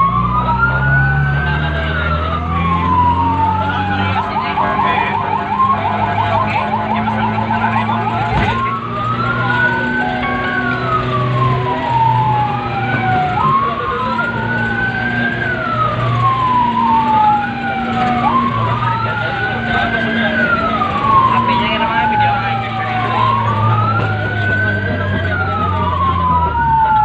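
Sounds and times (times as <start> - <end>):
emergency vehicle sirens wailing: 0.0 - 27.0
engine hum: 0.0 - 27.0
fast siren yelp: 0.0 - 27.0.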